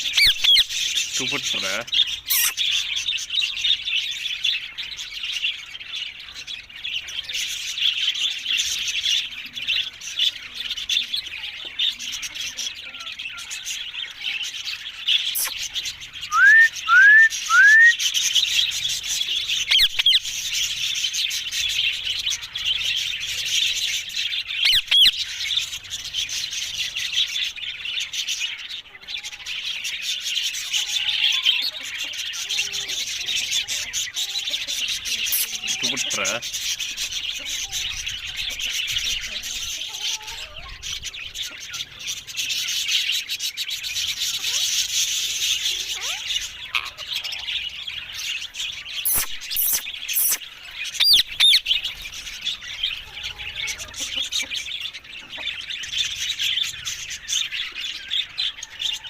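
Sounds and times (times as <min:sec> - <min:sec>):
parakeets chattering: 0:00.0 - 0:59.0.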